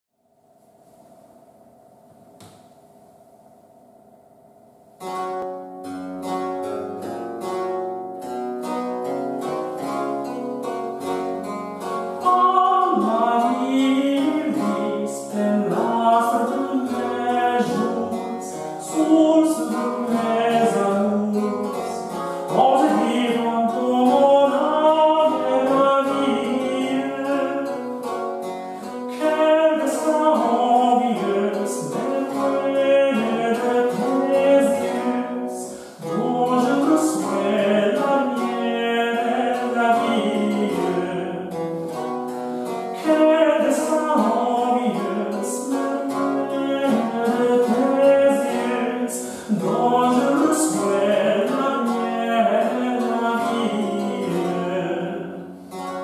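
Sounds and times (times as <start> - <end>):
man singing: 9.8 - 55.5.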